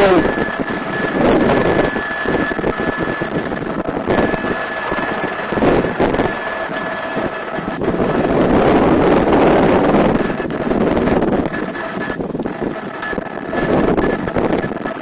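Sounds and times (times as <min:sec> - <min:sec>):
faint high whine: 0:00.0 - 0:15.0
helicopter rotor and engine: 0:00.0 - 0:15.0
wind buffeting microphone: 0:00.0 - 0:15.0.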